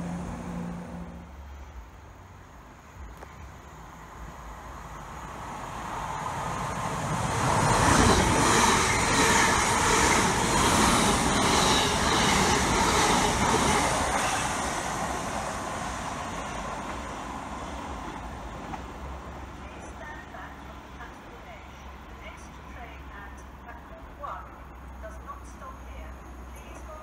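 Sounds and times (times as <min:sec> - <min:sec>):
electric train passing: 0:00.0 - 0:27.0.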